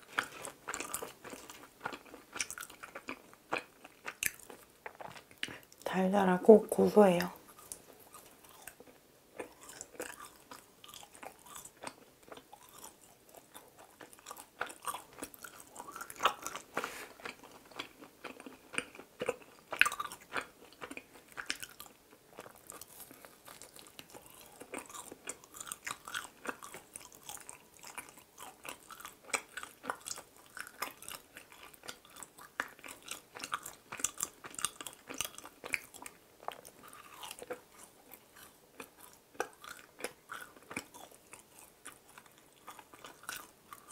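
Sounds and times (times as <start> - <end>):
chewing with wet clicks: 0.0 - 5.9, 7.4 - 43.9.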